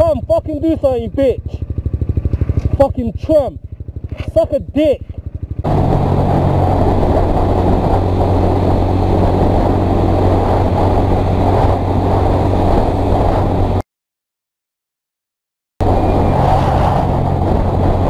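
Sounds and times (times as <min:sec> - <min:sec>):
motorcycle engine cruising: 0:00.0 - 0:13.8, 0:15.8 - 0:18.0
wind rush on helmet microphone: 0:00.0 - 0:13.8, 0:15.8 - 0:18.0.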